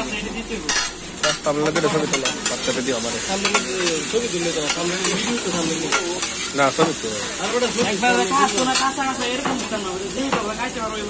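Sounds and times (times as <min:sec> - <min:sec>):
onions sizzling on a griddle: 0:00.0 - 0:11.0.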